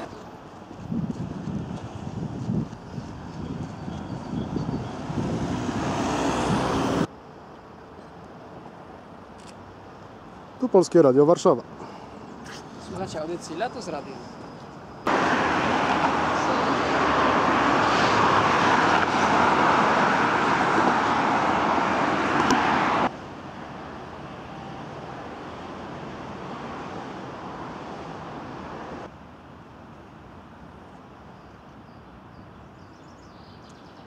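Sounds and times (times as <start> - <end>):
road traffic rushing: 0.0 - 30.8.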